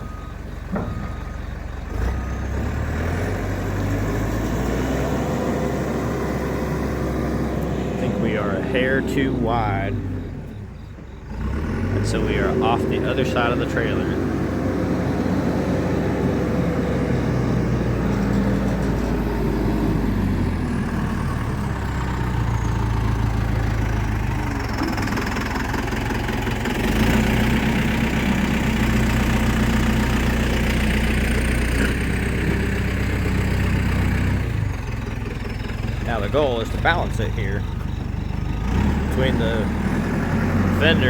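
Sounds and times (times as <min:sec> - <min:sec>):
backhoe engine running: 0:00.0 - 0:41.0.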